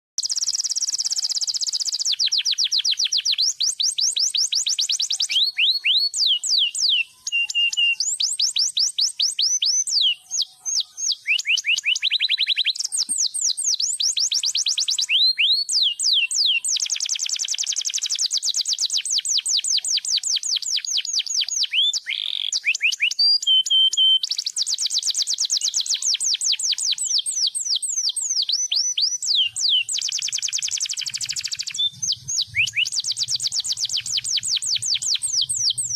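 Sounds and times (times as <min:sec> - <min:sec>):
canary singing trills: 0:00.2 - 0:35.9.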